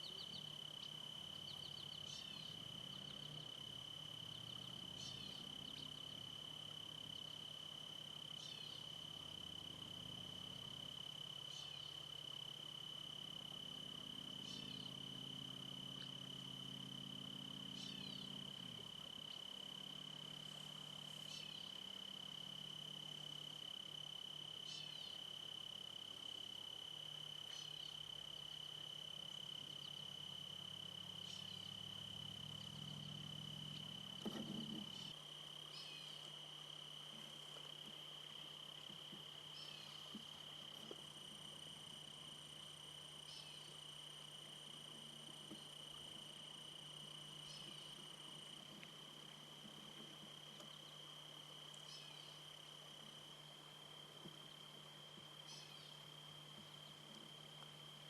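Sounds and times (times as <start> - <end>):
high-pitched insect trill: 0.0 - 58.0
low hum: 0.0 - 58.0.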